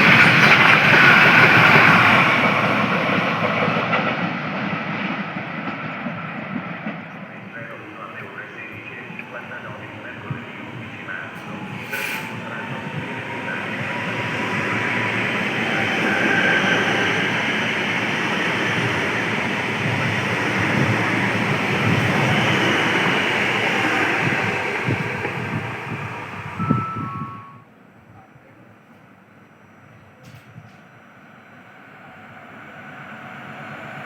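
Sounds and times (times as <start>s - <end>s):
train wheels rumbling on rail: 0.0s - 27.5s.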